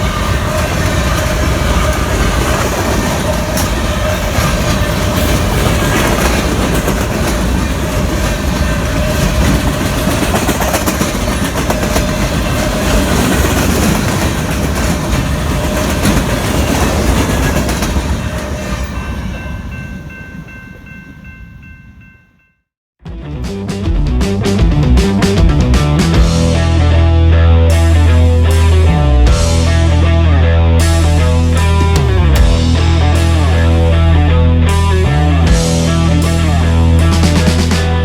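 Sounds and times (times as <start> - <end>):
freight train rumbling past: 0.0 - 22.2, 23.2 - 38.0.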